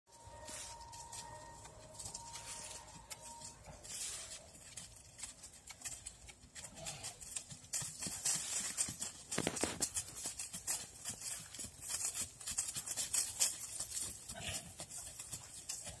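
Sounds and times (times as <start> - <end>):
hooves trotting on leafy dirt: 0.1 - 16.0.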